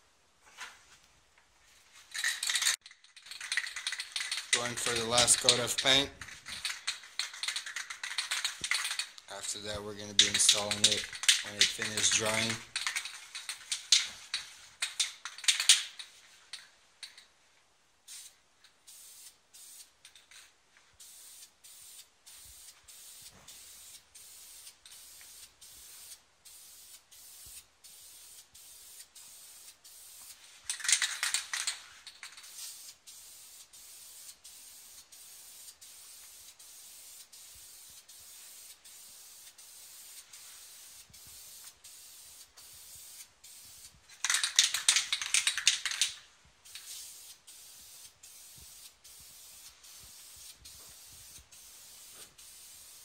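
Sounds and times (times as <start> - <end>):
spray paint can hissing: 2.1 - 17.3, 18.1 - 53.0.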